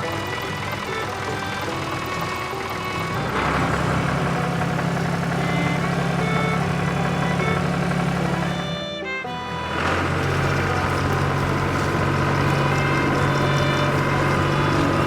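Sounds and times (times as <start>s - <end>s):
light background music: 0.0s - 15.0s
tractor engine running: 0.0s - 15.0s.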